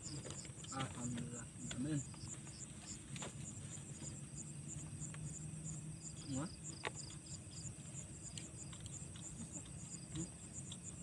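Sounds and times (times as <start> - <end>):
high insect chirp: 0.0 - 11.0
lower pulsed insect trill: 0.0 - 11.0.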